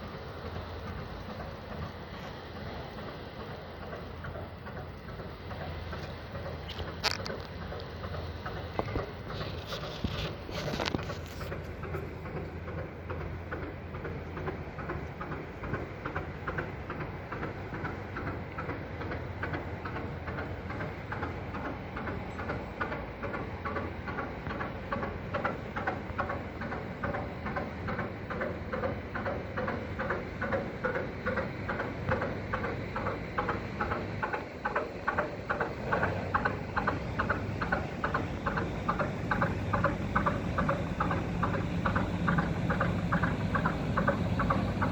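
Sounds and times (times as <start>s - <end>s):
diesel engine knocking slowly: 0.0s - 44.9s.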